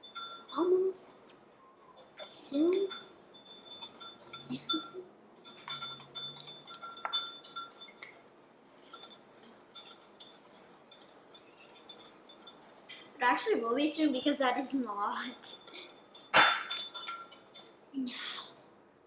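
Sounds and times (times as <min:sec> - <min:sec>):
whisk clinking against bowl: 0:00.0 - 0:00.9, 0:01.8 - 0:08.2, 0:08.8 - 0:13.0, 0:13.9 - 0:17.8.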